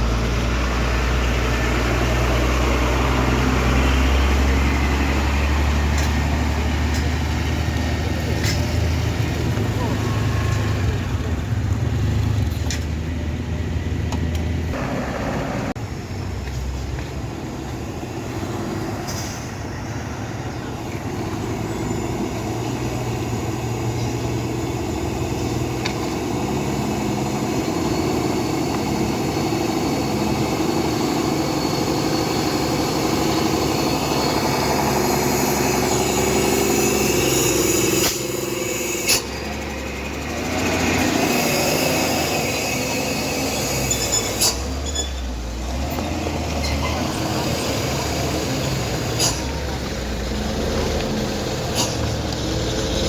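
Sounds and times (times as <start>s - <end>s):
heavy vehicle engines droning: 0.0s - 53.0s.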